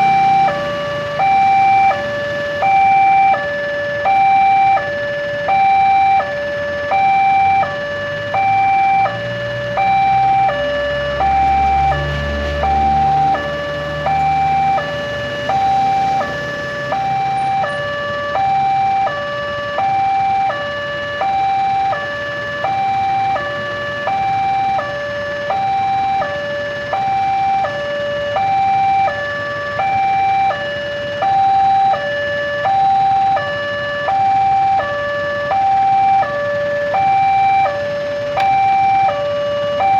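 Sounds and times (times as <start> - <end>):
two-tone level crossing alarm: 0.0 - 39.9.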